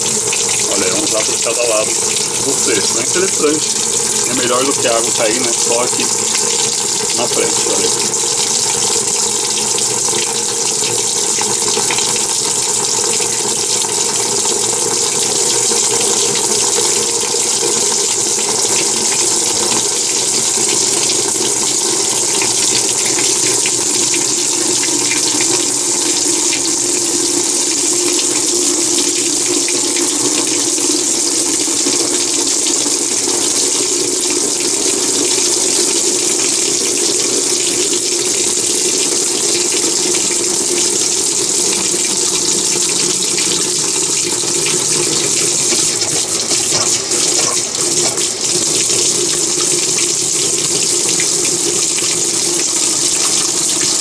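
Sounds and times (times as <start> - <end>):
water spraying into washing machine: 0.0 - 32.4, 35.2 - 54.0.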